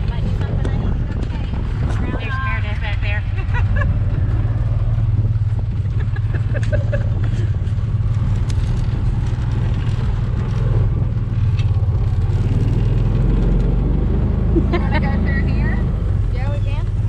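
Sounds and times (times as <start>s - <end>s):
rattle over rough ground: 0.0s - 13.9s
atv engine droning: 0.0s - 17.0s.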